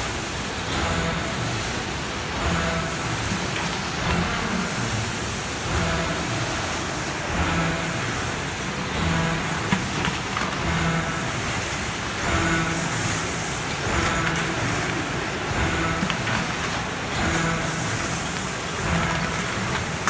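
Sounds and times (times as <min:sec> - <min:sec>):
packaging machinery running: 0:00.0 - 0:20.0.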